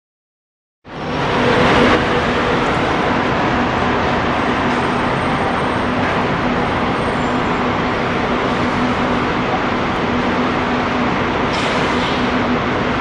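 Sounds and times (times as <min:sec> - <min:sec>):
street traffic noise: 0:00.8 - 0:13.0.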